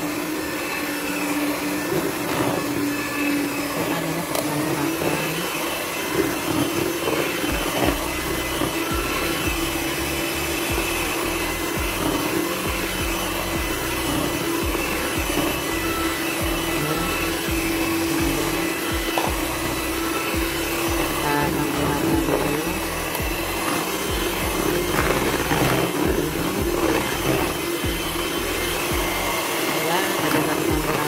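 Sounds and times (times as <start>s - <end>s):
electric hand mixer whirring: 0.0s - 31.0s.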